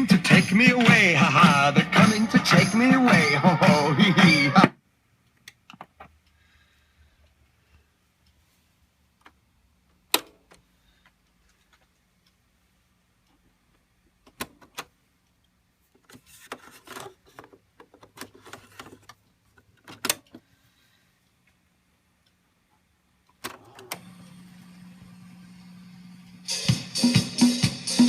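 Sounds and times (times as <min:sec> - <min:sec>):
steady hum with faint hiss: 0:00.0 - 0:26.5.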